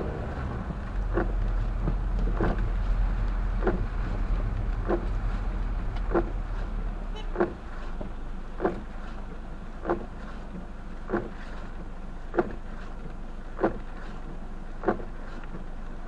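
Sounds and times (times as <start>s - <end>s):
low road rumble: 0.0s - 16.0s
windshield wipers thumping: 0.0s - 16.0s.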